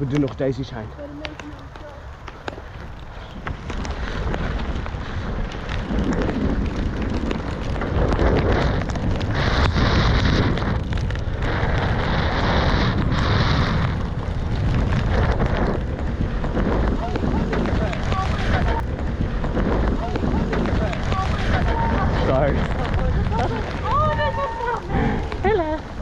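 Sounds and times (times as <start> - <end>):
bike tyre rumble on dirt trail: 0.0 - 26.0
wind buffeting microphone: 0.0 - 26.0.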